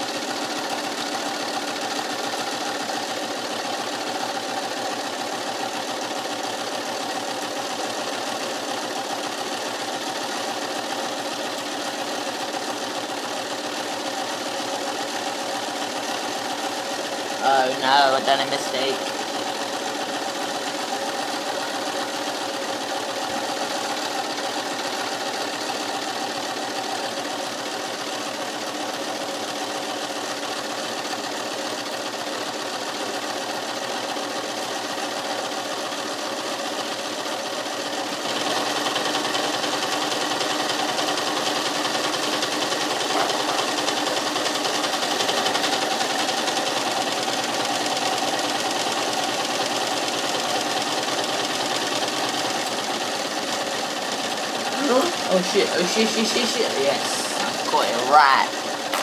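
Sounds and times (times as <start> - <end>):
sewing machine stitching: 0.0 - 59.0.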